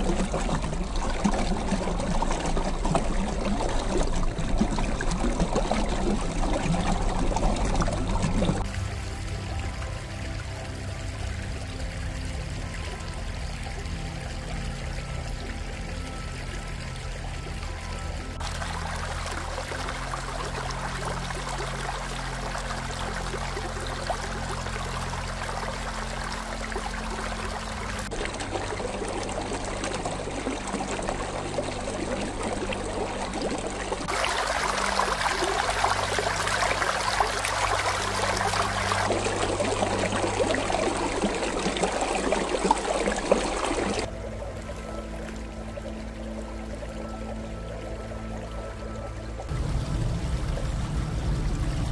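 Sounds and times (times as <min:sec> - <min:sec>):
stream trickling and splashing: 0:00.0 - 0:51.9.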